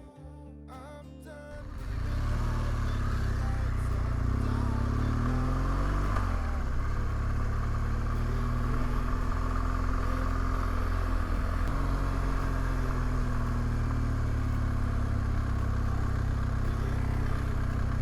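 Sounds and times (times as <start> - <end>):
motorcycle engine running: 1.6 - 18.0.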